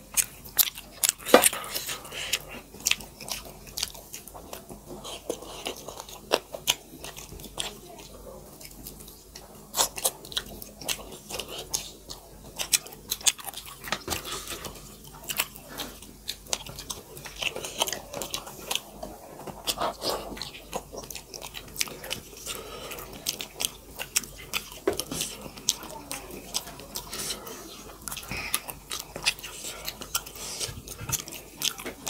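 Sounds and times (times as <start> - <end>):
people chewing food: 0.0 - 32.0.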